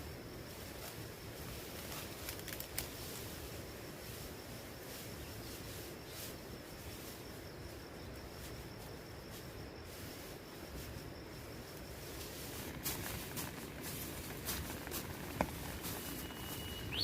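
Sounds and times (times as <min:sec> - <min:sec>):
high-pitched insect call: 0:00.0 - 0:17.0.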